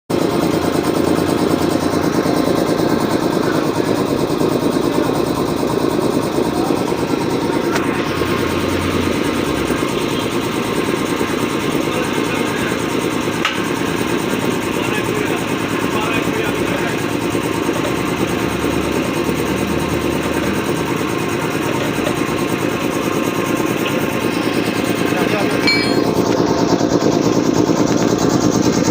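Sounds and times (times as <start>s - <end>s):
air compressor running: 0.1s - 28.9s.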